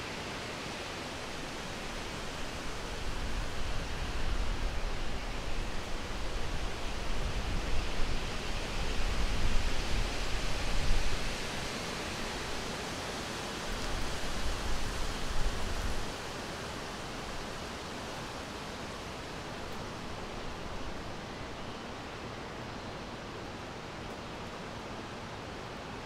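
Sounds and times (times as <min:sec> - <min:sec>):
steady outdoor hiss: 0:00.0 - 0:26.0.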